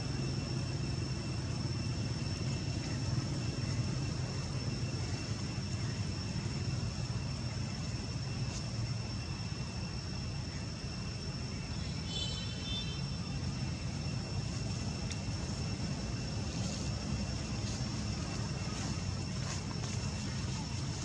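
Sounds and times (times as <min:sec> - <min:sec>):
steady high-pitched whine: 0:00.0 - 0:21.0.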